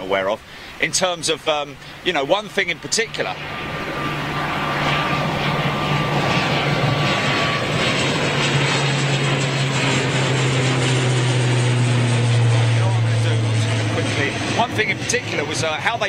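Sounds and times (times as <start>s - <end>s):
propeller airliner droning overhead: 0.0s - 16.0s.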